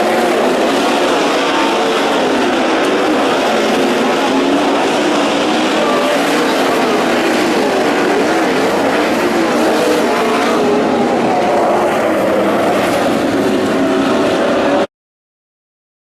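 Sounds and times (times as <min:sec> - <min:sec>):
racing car engines: 0:00.0 - 0:14.9.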